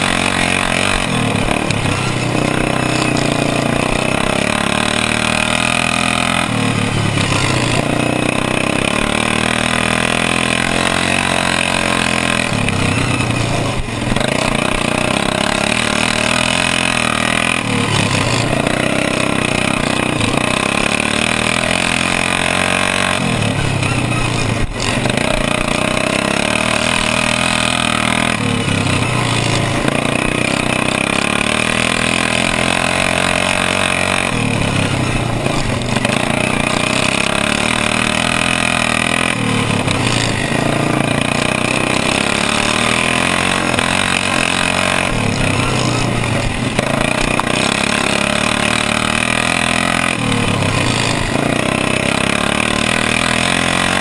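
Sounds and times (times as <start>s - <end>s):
lawn mower engine revving: 0.0s - 54.0s.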